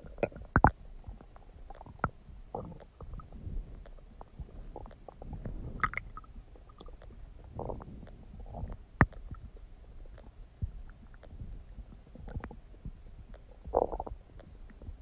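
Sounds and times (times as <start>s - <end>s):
stomach gurgling: 0.0s - 15.0s.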